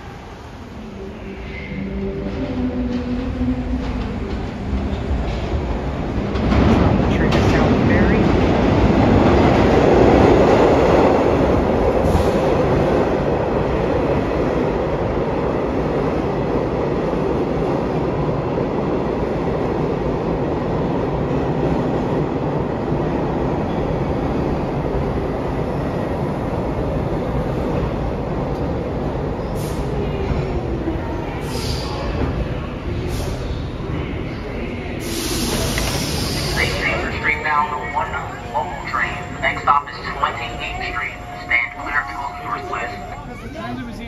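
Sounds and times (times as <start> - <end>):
subway train wheel-and-rail noise: 0.0 - 44.0.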